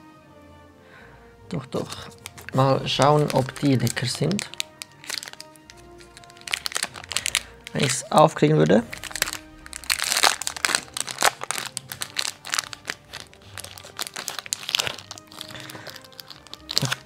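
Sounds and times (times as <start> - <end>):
background music: 0.0 - 17.0
plastic wrapper crinkling: 1.8 - 17.0.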